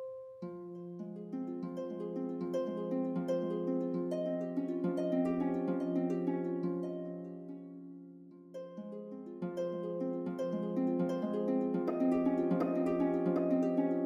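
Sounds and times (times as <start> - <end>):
plucked harp-like music: 0.0 - 14.0.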